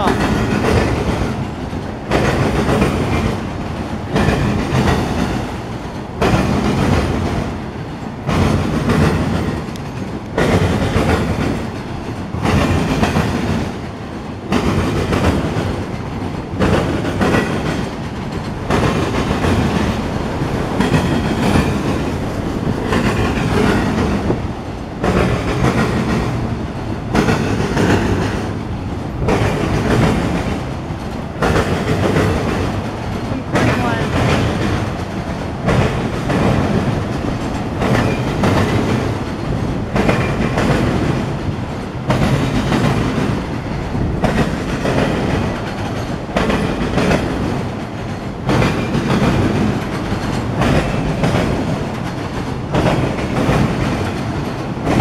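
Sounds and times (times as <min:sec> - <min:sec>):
train rumble: 0:00.0 - 0:55.0
wheels clacking over rail joints: 0:00.0 - 0:55.0.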